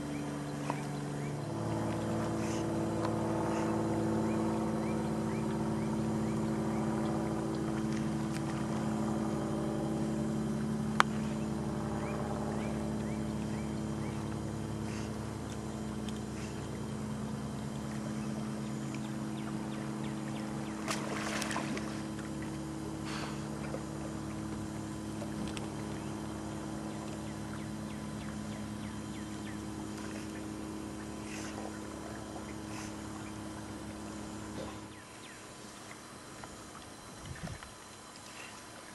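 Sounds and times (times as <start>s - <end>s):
motor humming: 0.0s - 38.9s.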